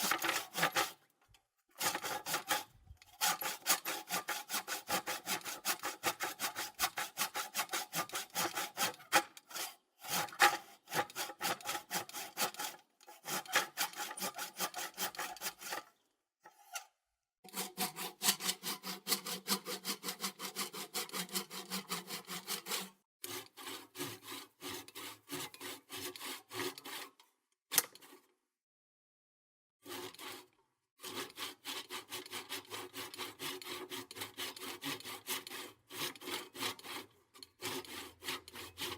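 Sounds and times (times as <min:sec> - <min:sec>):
handsaw cutting wood: 0:00.0 - 0:01.1, 0:01.8 - 0:16.0, 0:17.5 - 0:27.2, 0:29.8 - 0:38.9.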